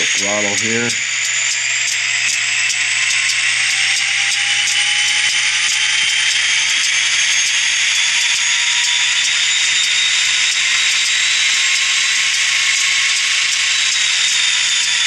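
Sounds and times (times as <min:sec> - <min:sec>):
simulated locomotive engine drone: 0:00.0 - 0:15.0.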